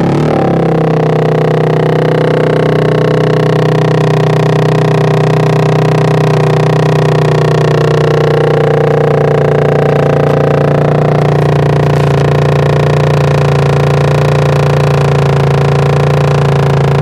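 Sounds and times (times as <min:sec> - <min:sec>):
moped engine idling loudly: 0:00.0 - 0:17.0.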